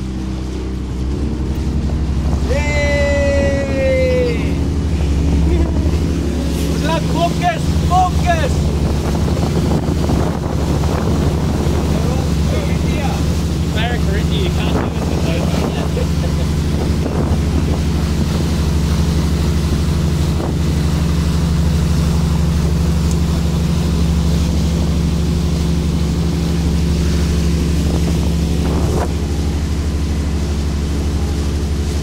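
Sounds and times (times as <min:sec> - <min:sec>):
wind noise on microphone: 0:00.0 - 0:31.3
motorboat engine drone: 0:00.0 - 0:32.0.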